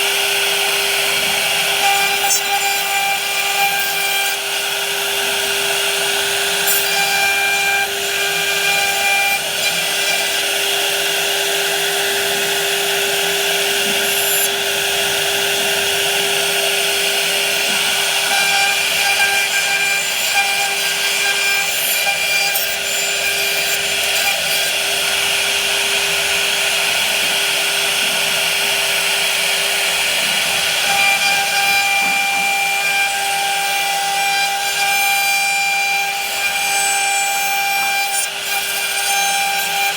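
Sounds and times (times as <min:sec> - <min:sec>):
power tool cutting wood: 0:00.0 - 0:39.9.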